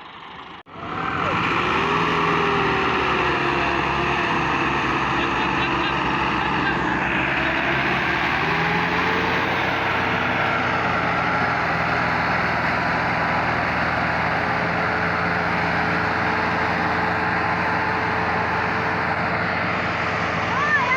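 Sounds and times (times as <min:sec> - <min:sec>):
tractor engine droning: 0:00.0 - 0:20.9.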